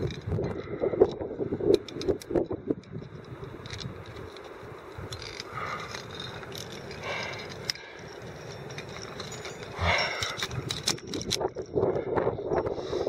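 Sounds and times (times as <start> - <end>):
wind buffeting microphone: 0.0 - 13.0
metal climbing gear scraping rock: 1.7 - 13.0.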